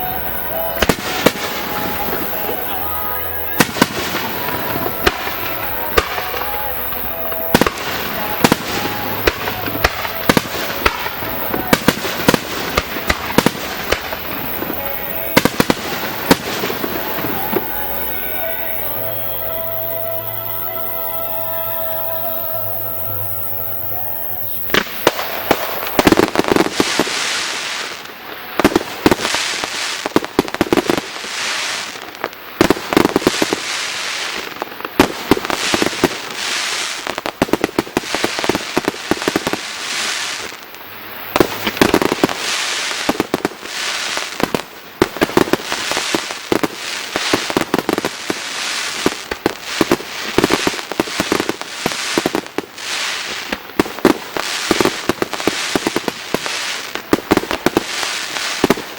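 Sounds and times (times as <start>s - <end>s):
firework shells bursting: 0.0s - 58.9s
fireworks crackling: 0.0s - 58.9s.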